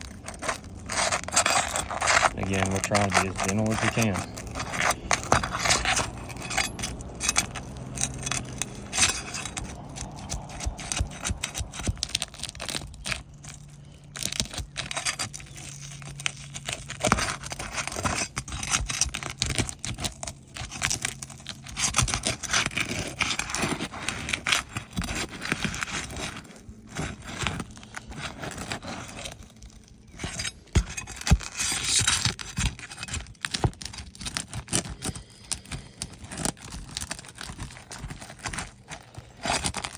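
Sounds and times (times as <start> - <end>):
roof shingles scraping and tearing: 0.0 - 39.9.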